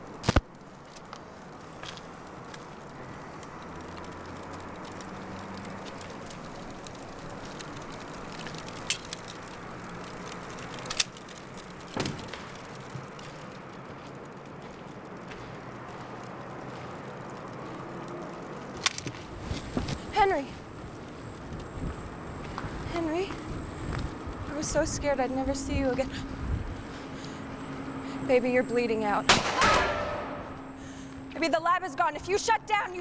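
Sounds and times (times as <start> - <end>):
fire crackling: 0.0 - 33.0.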